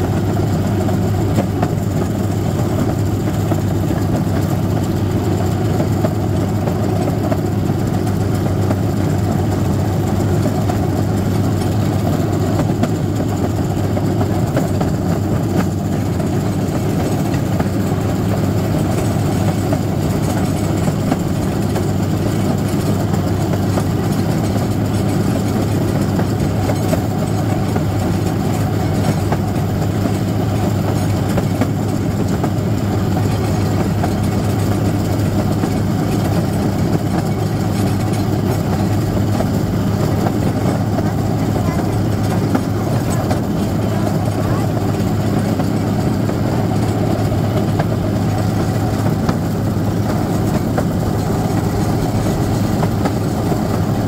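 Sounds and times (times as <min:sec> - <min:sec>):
railcart engine hum: 0:00.0 - 0:54.0
wheels rolling on rails: 0:00.0 - 0:54.0.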